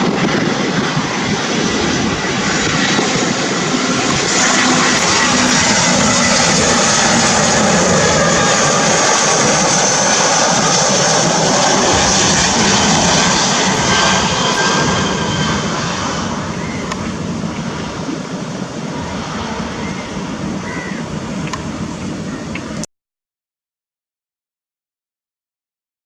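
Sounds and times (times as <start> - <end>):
jet airliner flying overhead: 0.0 - 22.9.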